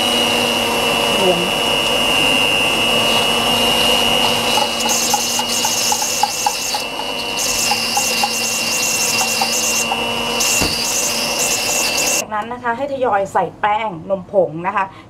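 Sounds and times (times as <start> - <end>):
electric hand mixer whirring: 0.0 - 12.2.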